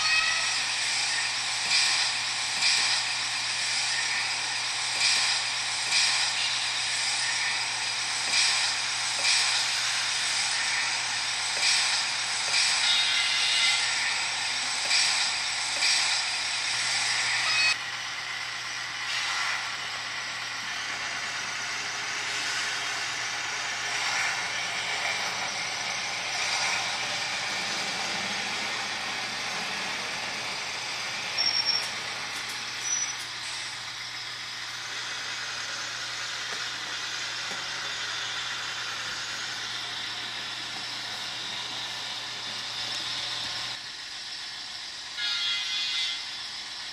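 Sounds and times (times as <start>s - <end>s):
model train mechanical running: 0.0s - 46.9s.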